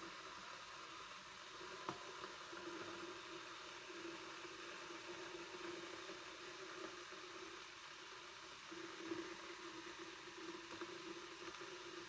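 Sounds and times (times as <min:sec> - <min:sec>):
kettle heating water hiss: 0:00.0 - 0:12.0.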